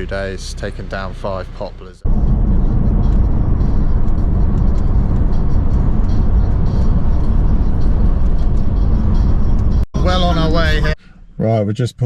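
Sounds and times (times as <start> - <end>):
vehicle engine and tyre rumble: 0.0 - 11.1.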